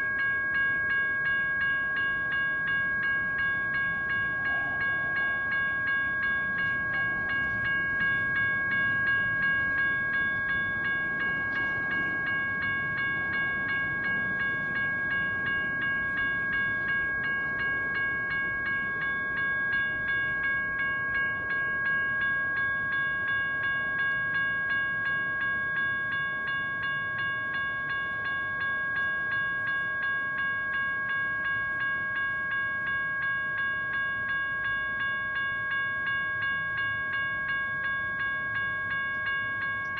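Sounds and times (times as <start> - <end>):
crossing bell ringing: 0.0 - 39.9
low train rumble: 0.0 - 39.9.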